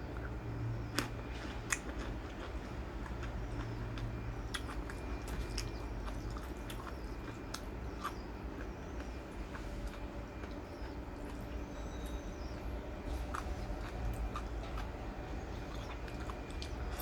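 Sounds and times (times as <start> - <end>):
steady low hum: 0.0 - 17.0
person chewing food: 0.1 - 17.0.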